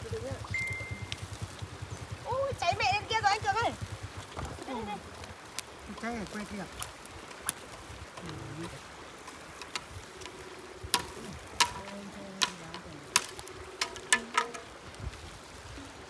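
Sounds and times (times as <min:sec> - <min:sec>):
low hiss: 0:00.0 - 0:16.0
wood fire crackling and popping: 0:00.0 - 0:16.0.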